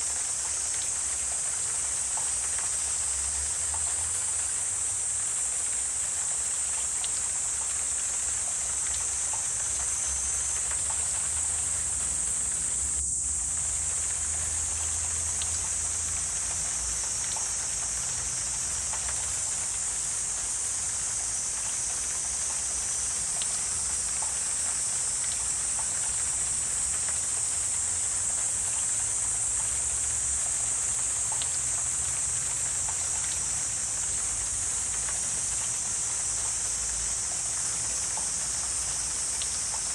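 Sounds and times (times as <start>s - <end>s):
high-pitched insect chorus: 0.0s - 39.9s
faint ticks: 0.1s - 4.2s, 6.3s - 39.9s.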